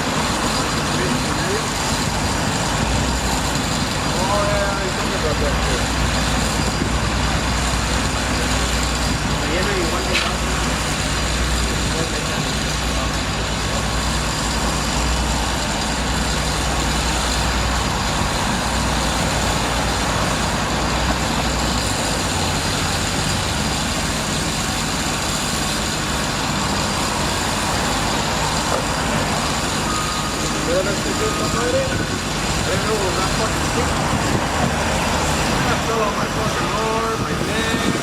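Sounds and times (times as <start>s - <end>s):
heavy vehicle engine running: 0.0s - 38.0s.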